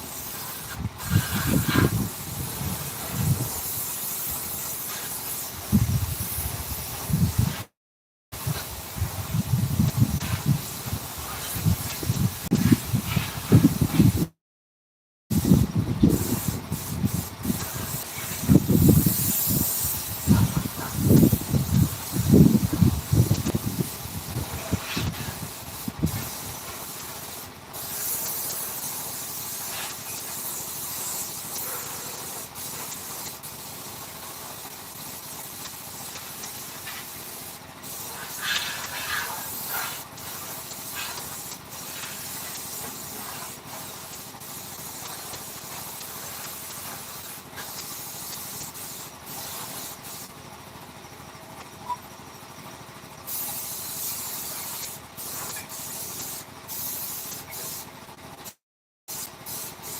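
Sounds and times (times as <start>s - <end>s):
spraying hiss: 0.0s - 7.7s, 8.4s - 14.4s, 15.3s - 50.3s, 53.3s - 59.9s.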